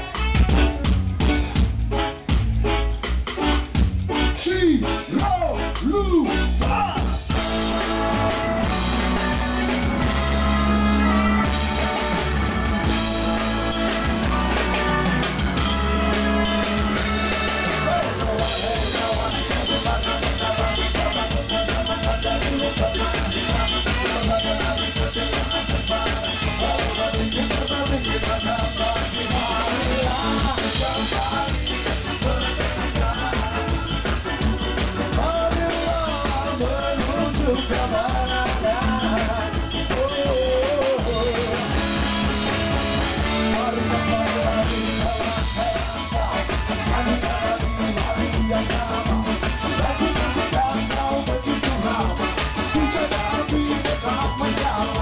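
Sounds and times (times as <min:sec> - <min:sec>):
driving drum beat: 0:00.0 - 0:55.0
ska band playing live: 0:00.0 - 0:55.0.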